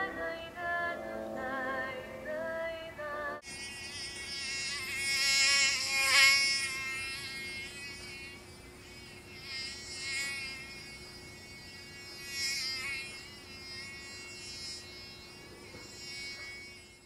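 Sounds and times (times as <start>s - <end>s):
high buzzing drone: 0.0s - 17.0s
steady low hum: 0.0s - 17.0s.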